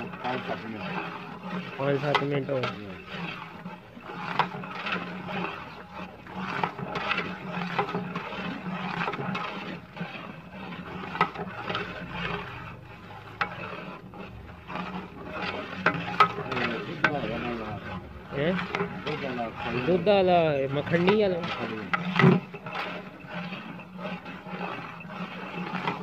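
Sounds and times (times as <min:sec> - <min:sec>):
ladle scraping a pot: 0:00.0 - 0:26.0.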